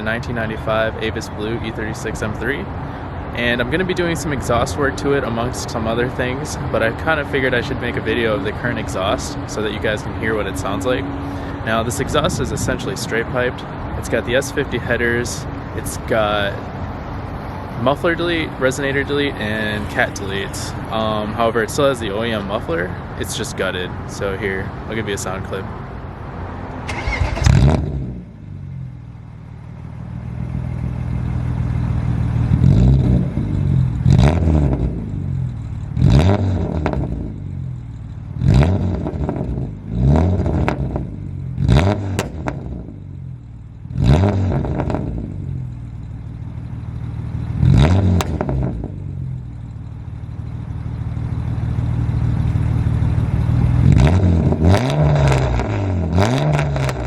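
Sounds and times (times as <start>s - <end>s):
car engine revving: 0.0s - 25.6s, 26.3s - 57.0s.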